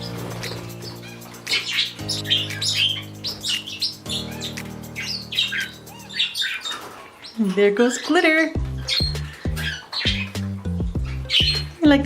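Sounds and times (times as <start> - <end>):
music with long held chords: 0.0 - 6.3, 8.6 - 12.0
parrots chirping and calling: 0.0 - 11.8.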